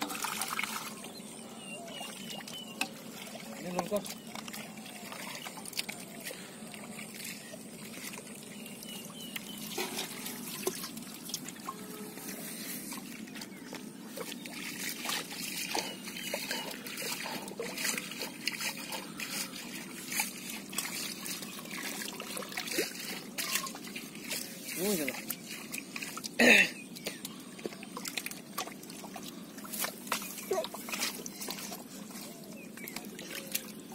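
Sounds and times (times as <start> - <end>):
water dribbling: 0.0 - 33.9
water splashing and trickling: 0.0 - 33.9.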